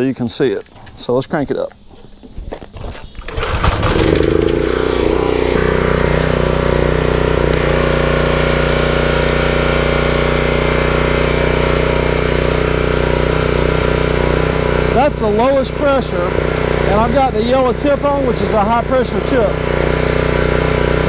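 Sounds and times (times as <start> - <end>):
high-pressure water spraying: 3.3 - 21.0
pressure washer engine running: 3.3 - 21.0.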